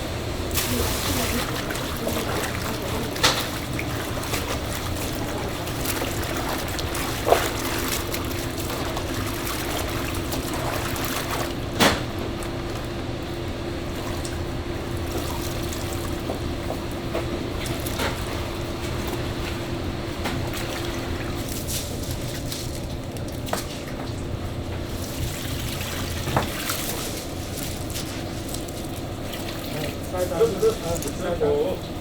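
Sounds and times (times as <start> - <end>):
water running: 0.0 - 19.5, 20.4 - 32.0
steady low hum: 0.0 - 32.0.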